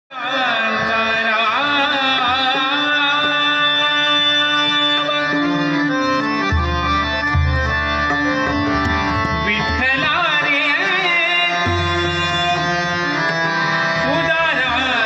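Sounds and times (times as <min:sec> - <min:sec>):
man singing devotional song: 0:00.1 - 0:07.6, 0:09.0 - 0:15.0
harmonium chords: 0:00.1 - 0:15.0.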